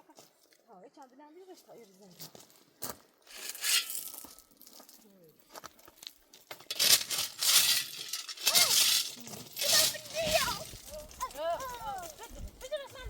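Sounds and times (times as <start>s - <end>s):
gravel crunching: 0.0s - 13.0s.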